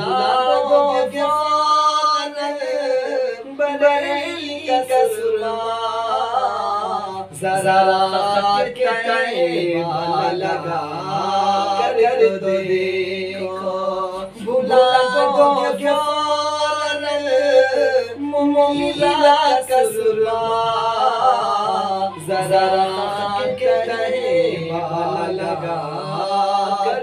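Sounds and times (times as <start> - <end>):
man singing unaccompanied: 0.0 - 27.0.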